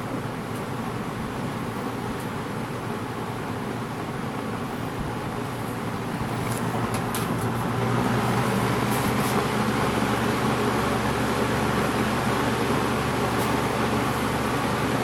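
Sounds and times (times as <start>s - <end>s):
box fan motor hum: 0.0s - 15.0s
rush of air from fan: 0.0s - 15.0s.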